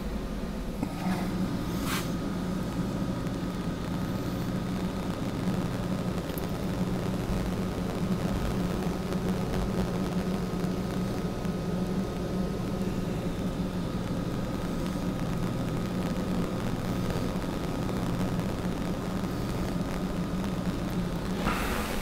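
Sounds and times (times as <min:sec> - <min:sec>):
electrical hum and static: 0:00.0 - 0:22.0.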